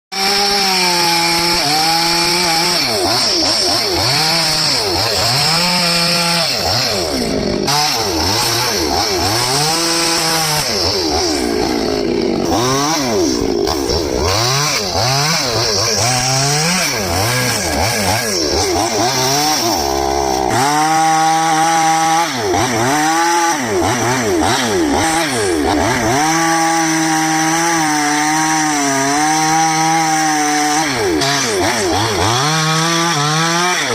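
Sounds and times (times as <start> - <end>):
chainsaw cutting wood: 0.1 - 33.9.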